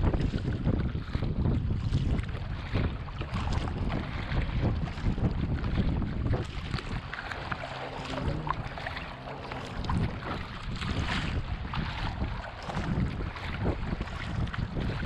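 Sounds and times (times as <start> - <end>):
paddle splashing: 0.0 - 15.0
water rushing along hull: 0.0 - 15.0
wind buffeting microphone: 0.0 - 15.0.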